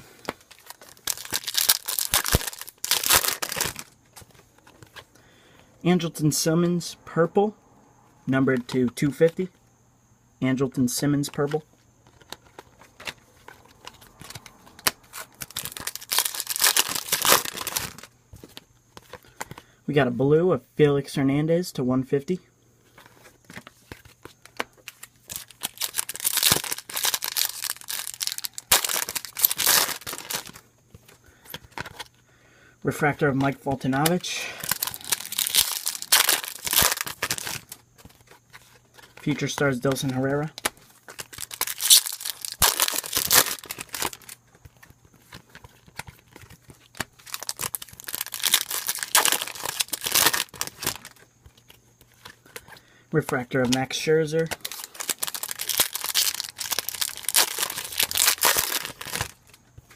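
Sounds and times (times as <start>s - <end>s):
foil wrapper crinkling: 0.0s - 5.2s, 11.4s - 19.6s, 22.9s - 32.2s, 33.8s - 59.9s
cards rustling: 0.0s - 6.7s, 10.6s - 19.8s, 22.8s - 32.3s, 32.9s - 59.9s.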